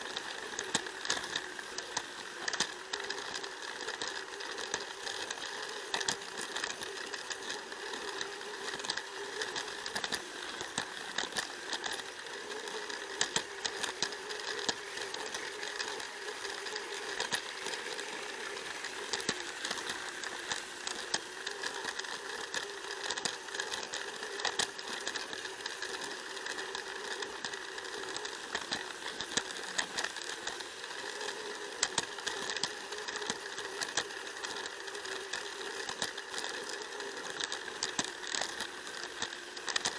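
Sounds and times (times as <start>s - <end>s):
toy train motor whirring: 0.0s - 39.9s
wheels clicking on plastic track: 0.0s - 39.9s.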